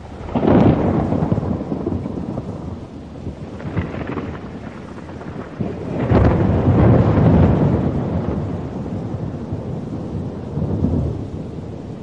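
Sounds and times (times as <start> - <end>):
rain falling: 0.0 - 12.0
rolling thunder: 0.0 - 12.0.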